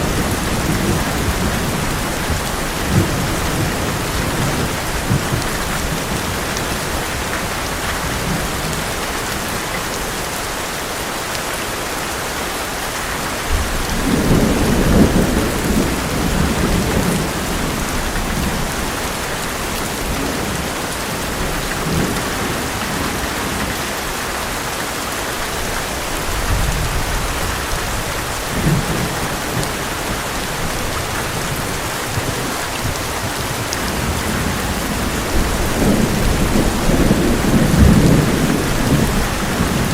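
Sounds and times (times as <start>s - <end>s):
thunder rumbling: 0.0s - 9.6s, 13.5s - 23.8s, 26.2s - 39.9s
heavy rain on a metal roof: 0.0s - 39.9s.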